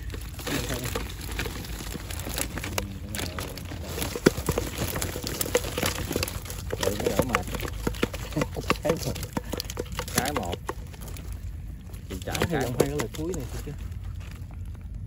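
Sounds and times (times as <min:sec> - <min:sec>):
netting and plastic bottle rustling: 0:00.0 - 0:15.0.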